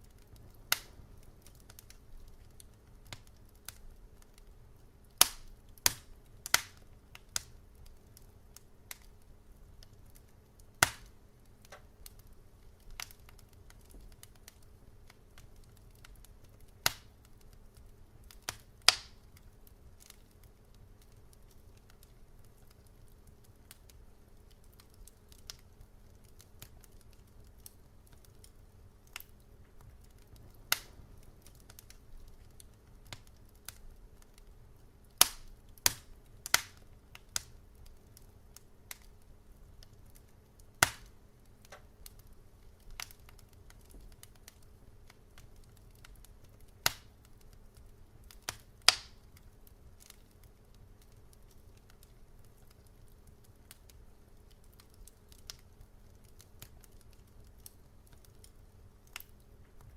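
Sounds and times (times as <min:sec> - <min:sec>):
faint low hum: 0:00.0 - 0:59.9
wood fire crackling: 0:00.0 - 0:59.9.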